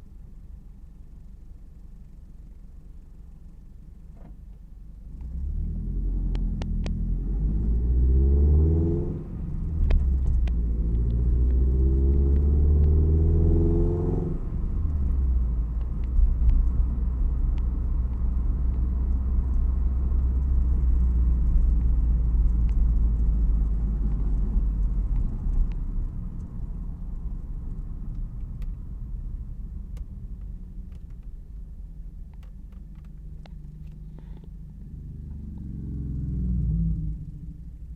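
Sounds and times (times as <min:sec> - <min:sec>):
car engine accelerating: 0:04.2 - 0:37.9.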